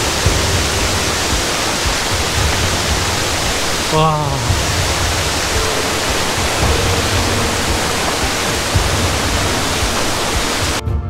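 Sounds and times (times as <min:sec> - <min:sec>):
stream rushing over rocks: 0:00.0 - 0:10.8.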